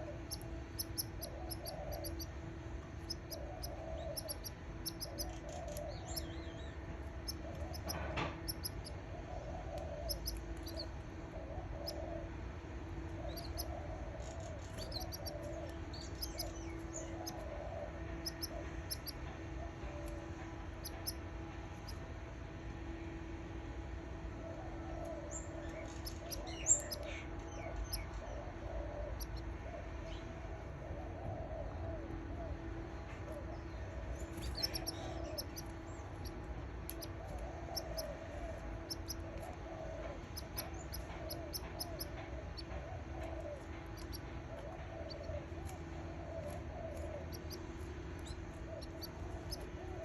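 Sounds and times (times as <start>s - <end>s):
chicks cheeping: 0.0s - 12.2s, 13.2s - 19.2s, 19.8s - 22.1s, 25.0s - 29.5s, 33.2s - 50.0s
baby canaries peeping: 0.0s - 12.3s, 13.0s - 22.1s, 24.4s - 50.0s
steady low hum: 0.0s - 50.0s.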